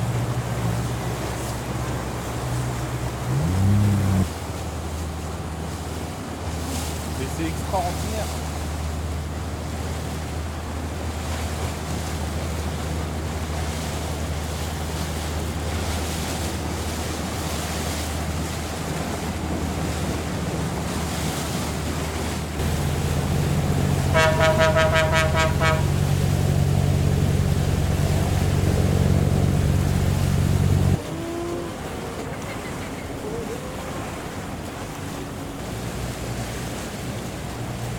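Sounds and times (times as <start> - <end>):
boat horn: 0.0 - 4.4, 6.6 - 37.9
boat engine humming: 0.0 - 37.9.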